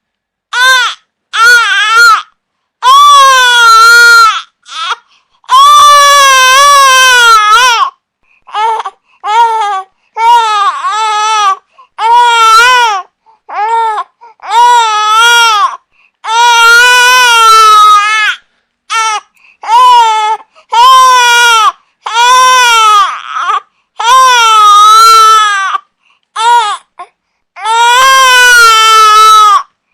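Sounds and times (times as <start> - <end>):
infant crying: 0.5 - 29.7.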